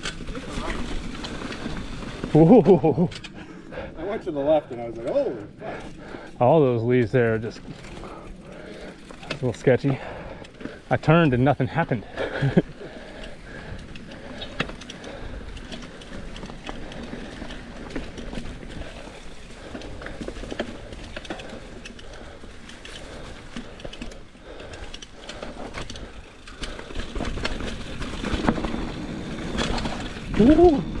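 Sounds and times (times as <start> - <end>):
bike clicking and rattling: 0.0 - 31.0.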